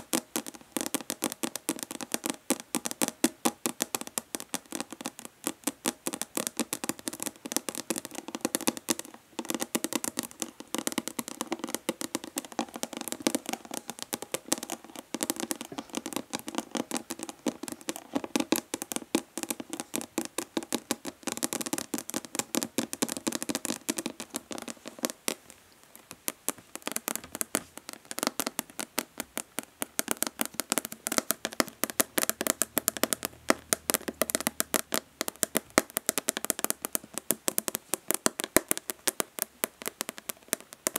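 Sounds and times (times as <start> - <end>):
fingernails tapping plastic bottle: 0.0 - 40.9.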